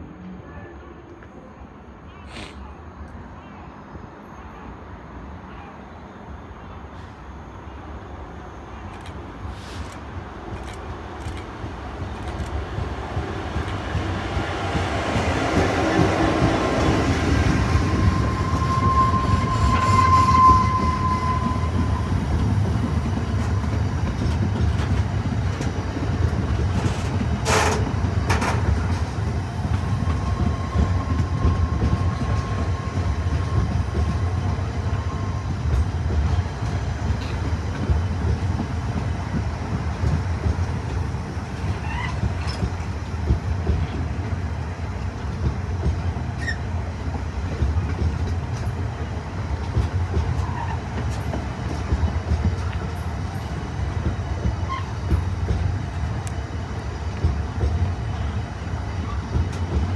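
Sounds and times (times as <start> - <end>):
train wheels rumbling on rail: 8.2 - 59.9.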